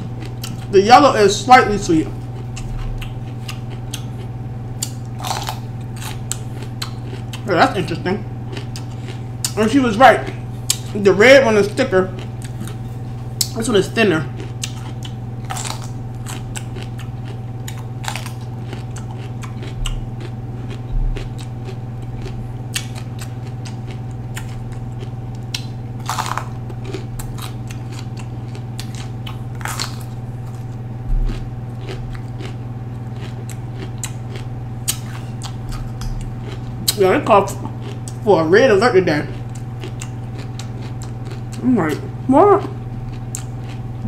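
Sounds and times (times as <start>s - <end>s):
bell pepper crunching: 0.0s - 44.0s
low hum: 0.0s - 44.0s.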